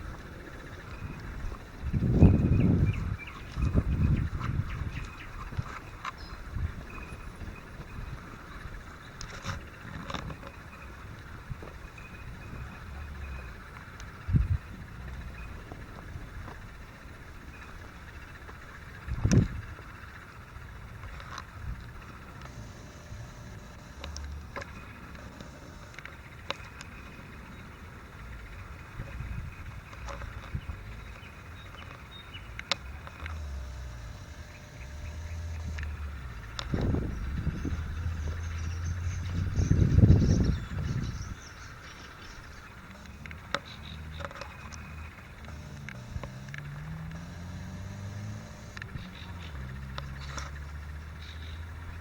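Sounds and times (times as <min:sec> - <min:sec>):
distant engine droning: 0:00.0 - 0:52.0
wind buffeting microphone: 0:00.0 - 0:52.0.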